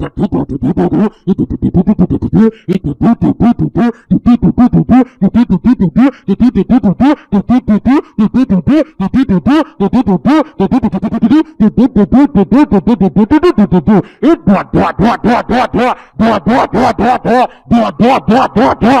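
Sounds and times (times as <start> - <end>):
man speaking in tongues: 0.0 - 19.0.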